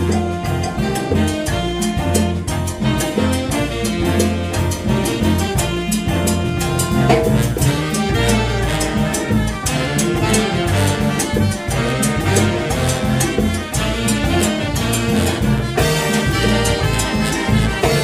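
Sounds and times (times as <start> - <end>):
drum kit beat: 0.0 - 18.0
jazz big band playing: 0.0 - 18.0.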